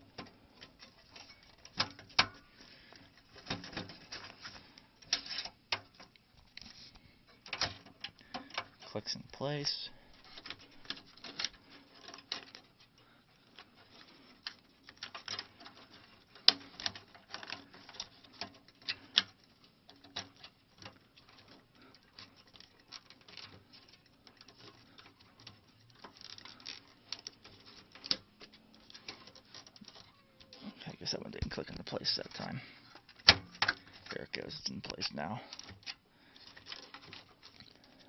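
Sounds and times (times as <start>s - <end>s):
plastic and metal clicks and rattles: 0.0s - 8.9s, 10.1s - 38.0s.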